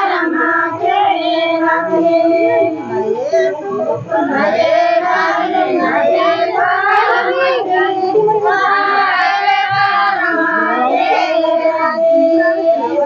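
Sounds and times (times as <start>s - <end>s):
women and girls singing together: 0.0s - 13.0s.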